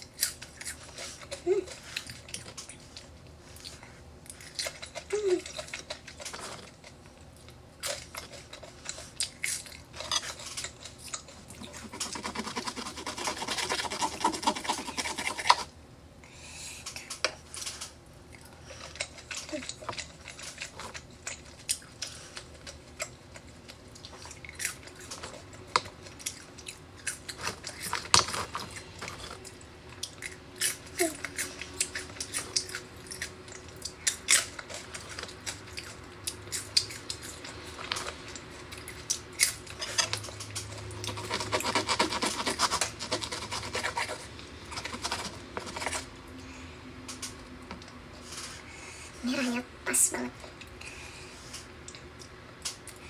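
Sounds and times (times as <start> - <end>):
steak being chewed: 0.0 - 15.8, 16.9 - 46.3.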